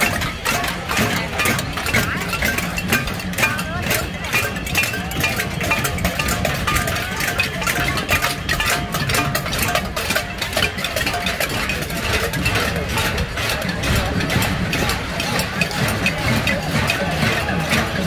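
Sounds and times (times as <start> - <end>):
pots and pans being banged: 0.0 - 18.0.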